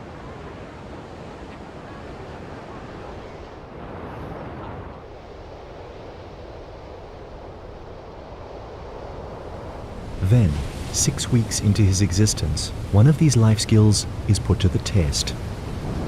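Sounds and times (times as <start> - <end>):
sea surf washing: 0.0 - 16.0.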